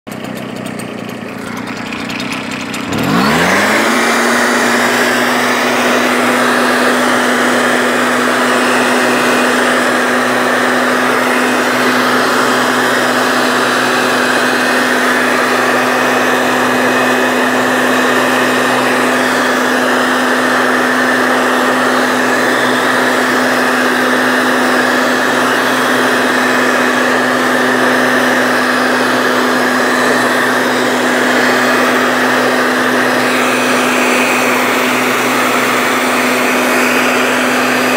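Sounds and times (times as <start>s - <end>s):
mist sprayer engine running: 0.1s - 37.9s.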